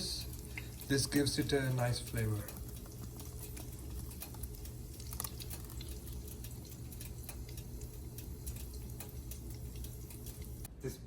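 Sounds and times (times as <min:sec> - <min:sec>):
frying oil crackling: 0:00.0 - 0:10.7
steady low hum: 0:00.0 - 0:11.0.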